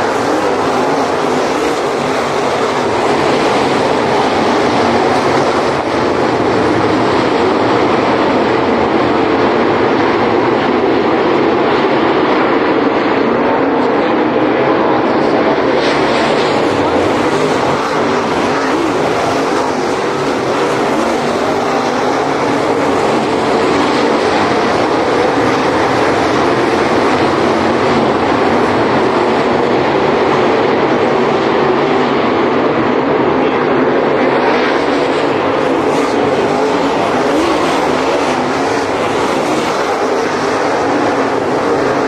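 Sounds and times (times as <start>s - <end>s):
race car engines roaring: 0.0s - 42.0s.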